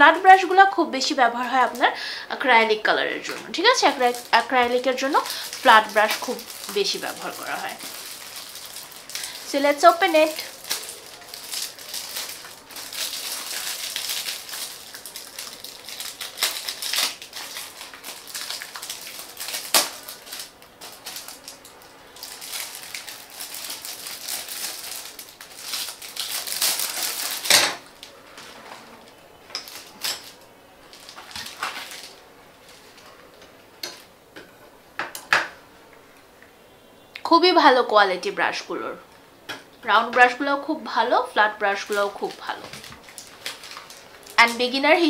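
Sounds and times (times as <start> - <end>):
plastic packaging crinkling: 0.0 - 33.1, 41.7 - 45.0.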